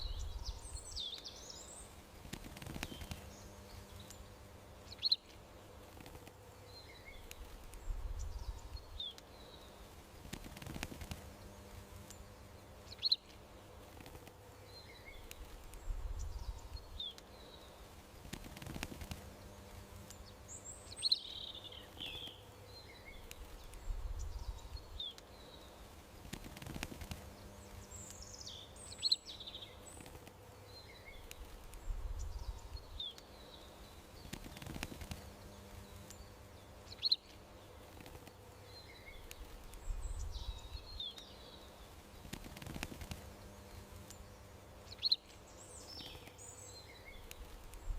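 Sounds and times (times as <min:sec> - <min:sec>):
faint steady hum: 0:00.0 - 0:47.9
small birds chirping: 0:00.0 - 0:47.9.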